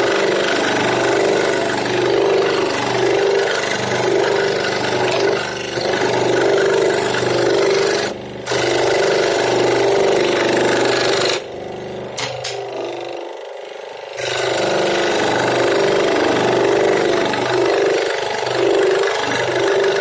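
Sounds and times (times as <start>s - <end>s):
power tool cutting wood: 0.0s - 20.0s.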